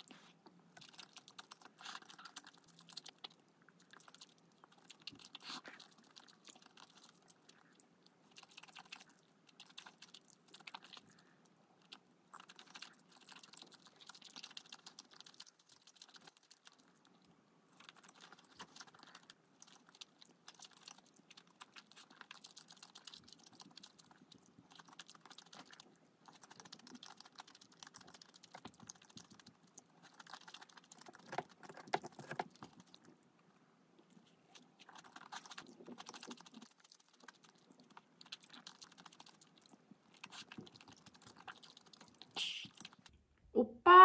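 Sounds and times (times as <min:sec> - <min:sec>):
person chewing food: 0:00.0 - 0:43.2.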